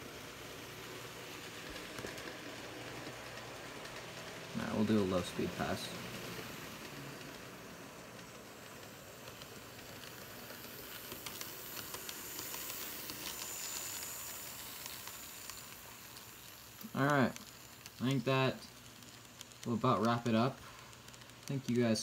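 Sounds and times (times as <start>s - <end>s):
model train hiss: 0.0s - 22.0s
model train wheels clicking: 0.0s - 22.0s.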